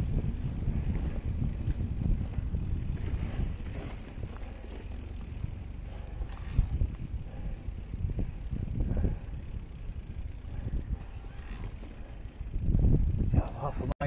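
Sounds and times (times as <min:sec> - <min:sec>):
bike rattles: 0:00.0 - 0:14.0
bike tyres rumbling over bumpy trail: 0:00.0 - 0:14.0.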